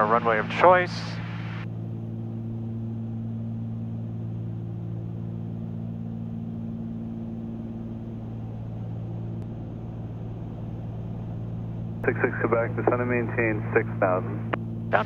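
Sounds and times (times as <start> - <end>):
twin piston engines droning: 0.0 - 15.0.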